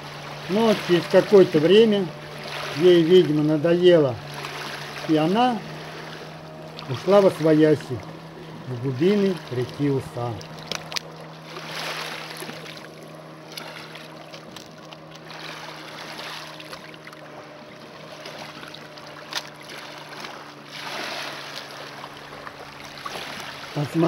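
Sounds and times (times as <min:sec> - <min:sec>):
low steady hum: 0:00.0 - 0:24.0
river water lapping on stones: 0:04.2 - 0:24.0.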